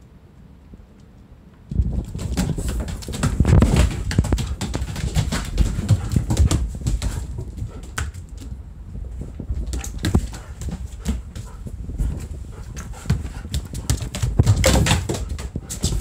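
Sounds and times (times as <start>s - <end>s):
paws and claws on wooden floor: 1.8s - 16.0s.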